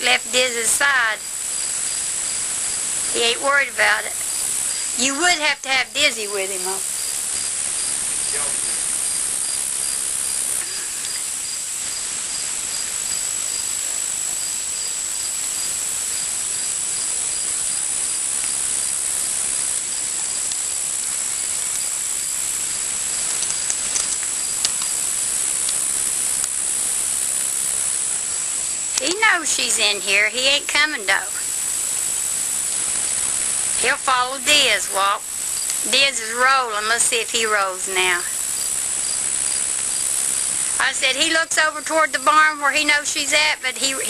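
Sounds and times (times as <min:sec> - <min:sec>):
insects trilling: 0:00.0 - 0:44.0
pulsing insect chirp: 0:00.0 - 0:44.0.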